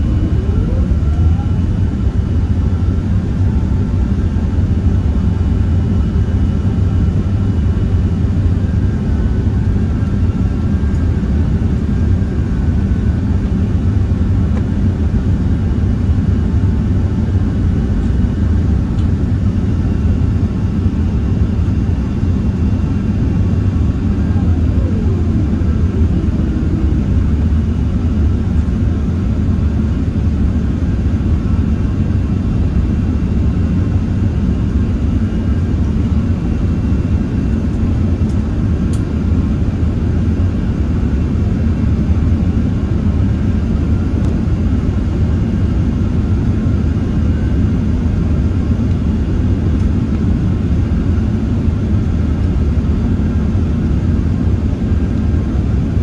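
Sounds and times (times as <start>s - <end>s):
airplane cabin roar: 0.0s - 56.0s.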